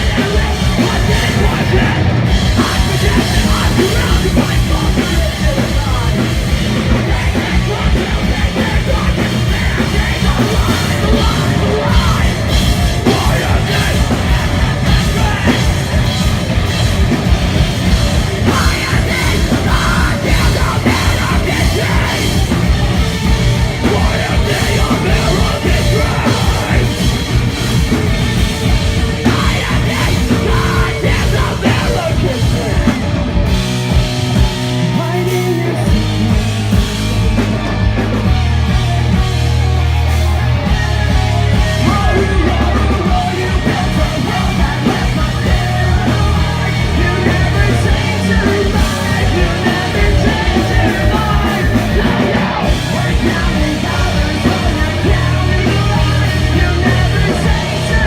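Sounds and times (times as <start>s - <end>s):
distorted guitars: 0.0s - 58.0s
heavy rock band playing: 0.0s - 58.0s
low bass notes: 0.0s - 58.0s
pounding drums: 0.0s - 58.0s
yelled vocals: 0.0s - 58.0s.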